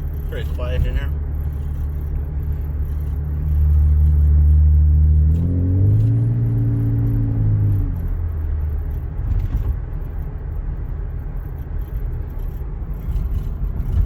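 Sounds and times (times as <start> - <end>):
car exhaust droning inside cabin: 0.0 - 14.0.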